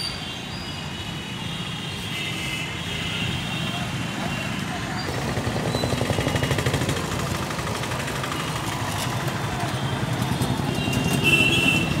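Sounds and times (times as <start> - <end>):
motorcycle and vehicle engines: 0.0 - 12.0.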